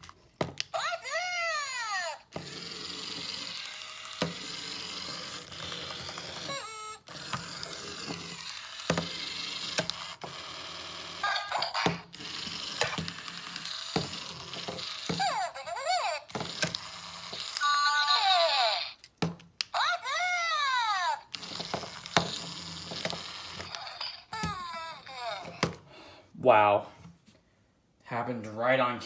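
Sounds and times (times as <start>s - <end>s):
toy clicks and knocks: 0.5s - 25.8s
toy motor whirring: 0.7s - 19.1s, 19.7s - 25.8s.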